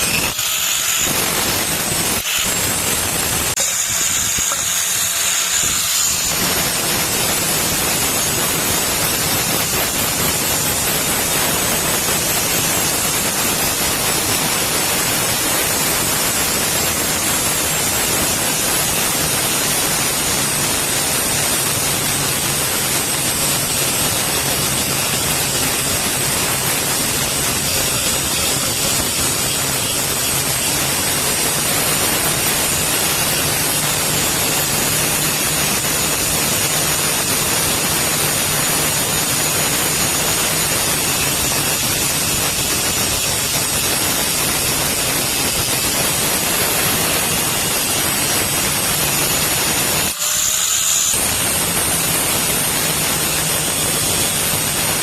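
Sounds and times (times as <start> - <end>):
loud machine noise with low hum: 0.0 - 55.0.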